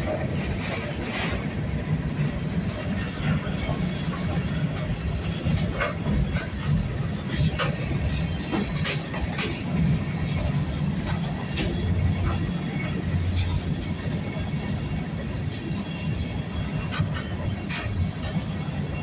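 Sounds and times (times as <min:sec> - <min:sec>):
clanks and clicks: 0:00.0 - 0:19.0
train wheels rumbling on track: 0:00.0 - 0:19.0.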